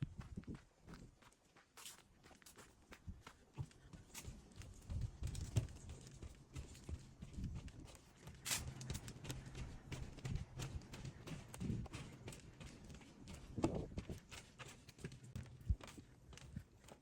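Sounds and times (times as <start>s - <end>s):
footsteps on a path: 0.0s - 17.0s.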